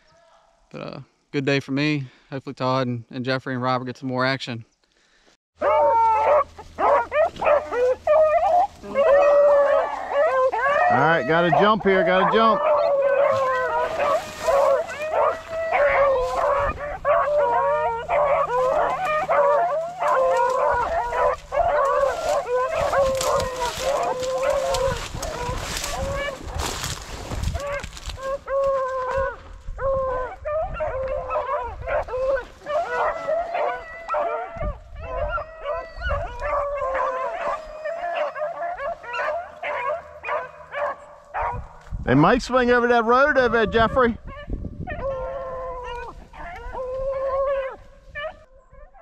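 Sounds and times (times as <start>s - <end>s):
pack of dogs baying: 5.6s - 41.9s, 43.4s - 49.0s.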